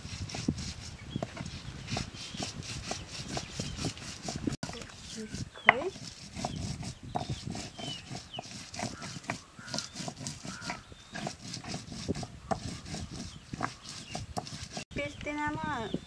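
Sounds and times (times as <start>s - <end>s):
stone grinding on stone slab: 0.0s - 14.9s.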